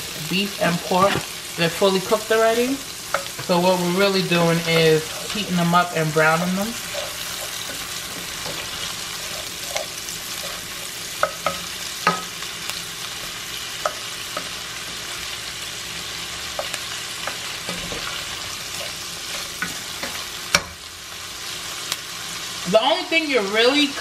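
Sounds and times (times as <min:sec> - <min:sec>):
spoon scraping a pan: 0:00.0 - 0:15.3, 0:16.2 - 0:20.8
food sizzling in a pan: 0:00.0 - 0:24.0.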